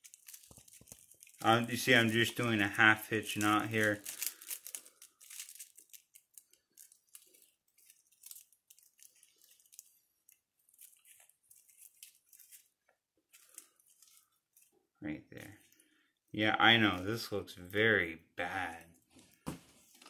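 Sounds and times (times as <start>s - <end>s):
faint tape crinkling: 0.0s - 20.0s.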